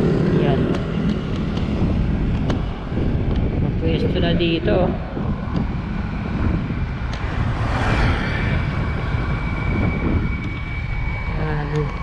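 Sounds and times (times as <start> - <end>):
street traffic rumble: 0.0 - 12.0
vehicle passing by: 0.0 - 12.0.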